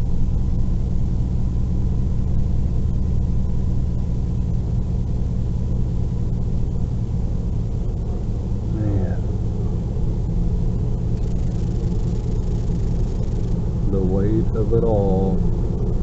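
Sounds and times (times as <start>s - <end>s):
road noise: 0.0s - 16.0s
truck engine rumble: 0.0s - 16.0s.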